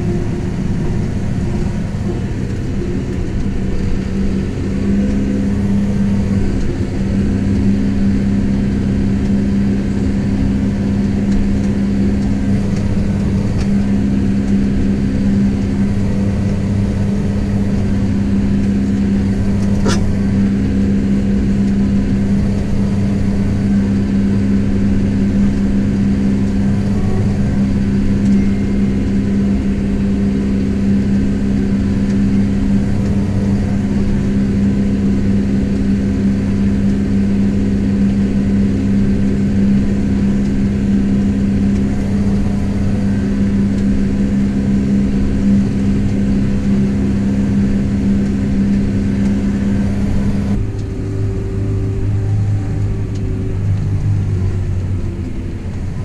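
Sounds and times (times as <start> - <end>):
tractor engine drone: 0.0 - 56.0.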